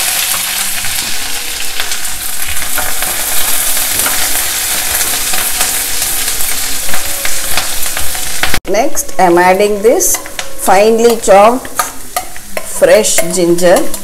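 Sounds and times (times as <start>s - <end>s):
chillies sizzling in hot oil: 0.0s - 14.0s.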